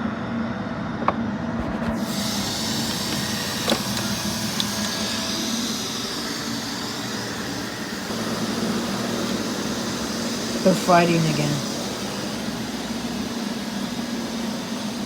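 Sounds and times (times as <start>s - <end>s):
robot vacuum whirring: 1.6s - 15.0s.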